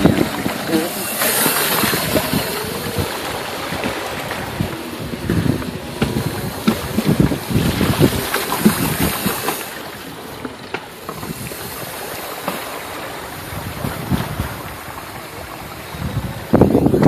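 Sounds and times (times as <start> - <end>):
tyres splashing through water: 0.0 - 17.0
wind buffeting microphone: 0.0 - 17.0.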